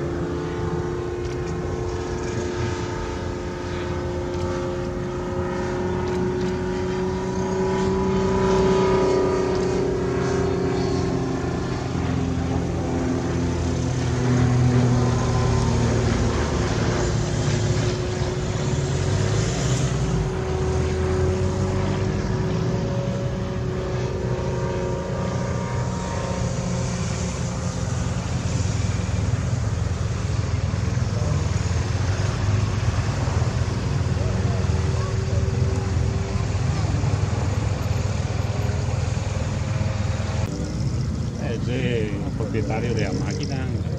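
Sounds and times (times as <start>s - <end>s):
ultralight aircraft engine drone: 0.0s - 43.9s.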